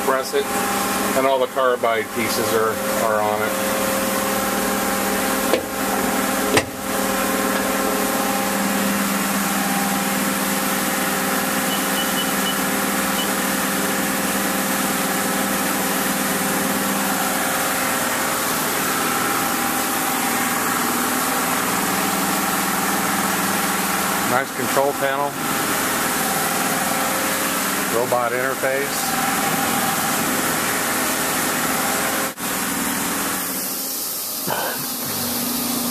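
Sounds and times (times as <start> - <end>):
lathe mechanical hum: 0.0 - 35.9.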